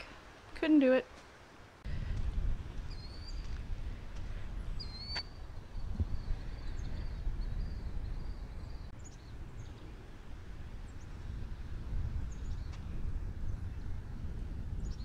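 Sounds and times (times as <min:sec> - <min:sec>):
wind rumbling on microphone: 0:01.6 - 0:15.0.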